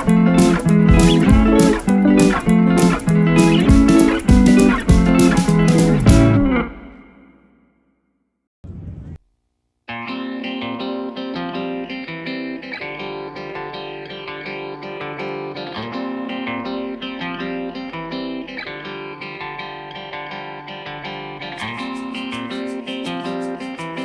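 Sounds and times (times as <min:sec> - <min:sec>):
plucked guitar music: 0:00.0 - 0:07.4, 0:09.9 - 0:24.0.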